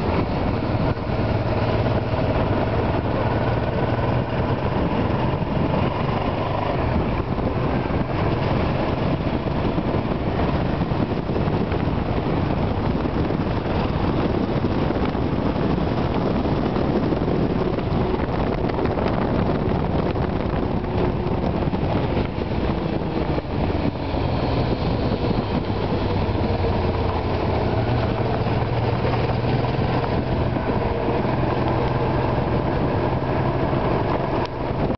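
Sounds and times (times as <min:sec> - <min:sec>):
road and wind noise: 0:00.0 - 0:34.9
vehicle engine running: 0:00.0 - 0:34.9.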